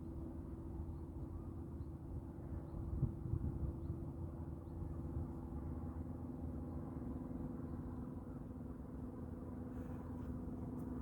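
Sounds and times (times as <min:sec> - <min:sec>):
constant hum: 0:00.0 - 0:11.0.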